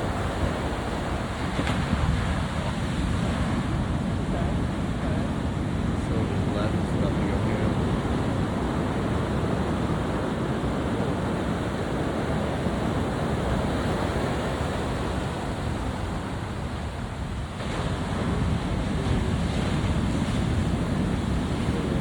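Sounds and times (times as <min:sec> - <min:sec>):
heavy ocean surf: 0:00.0 - 0:22.0
wind buffeting the microphone: 0:00.0 - 0:22.0.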